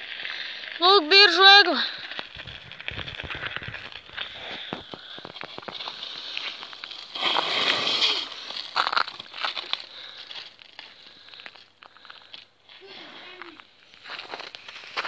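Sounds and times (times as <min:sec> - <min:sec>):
bicycle rolling on snow: 0:00.0 - 0:15.0
footsteps crunching on icy snow: 0:00.0 - 0:15.0.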